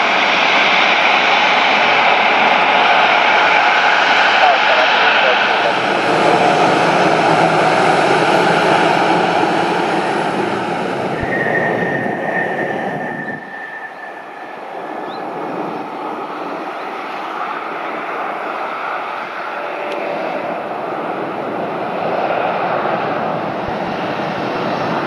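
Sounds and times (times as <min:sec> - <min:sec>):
airliner engines roaring: 0:00.0 - 0:25.0
high steady whine: 0:01.9 - 0:25.0.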